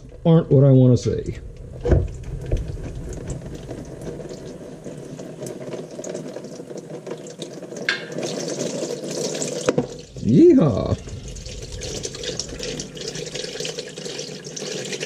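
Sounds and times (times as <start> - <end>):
fluid splashing into plastic tub: 1.8 - 15.0.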